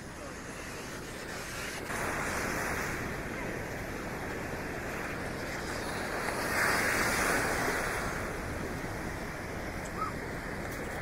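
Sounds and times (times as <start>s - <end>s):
waves washing on shore: 0.0s - 11.0s
wave breaking: 1.4s - 11.0s.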